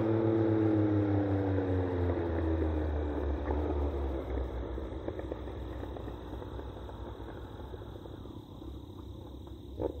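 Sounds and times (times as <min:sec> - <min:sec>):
distant motorcycle exhaust rumble: 0:00.0 - 0:10.0.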